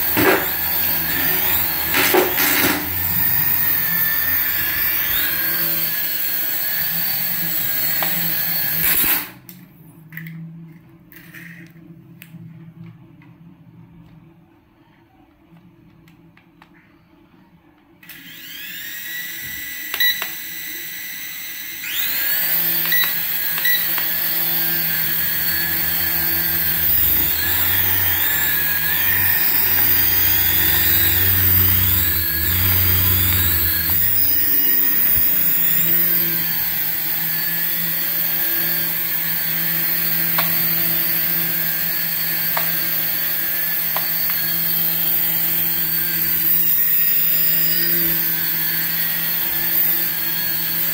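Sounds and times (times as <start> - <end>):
toy helicopter motor whine: 0.0 - 9.4, 18.0 - 50.9.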